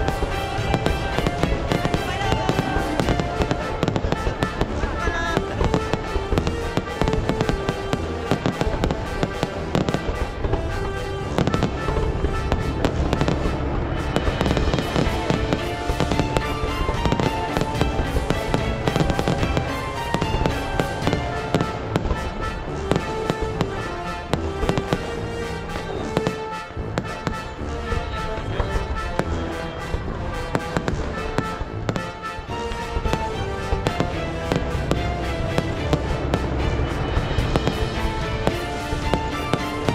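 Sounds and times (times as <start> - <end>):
fireworks bangs and crackles: 0.0 - 39.9
music playing: 0.0 - 39.9.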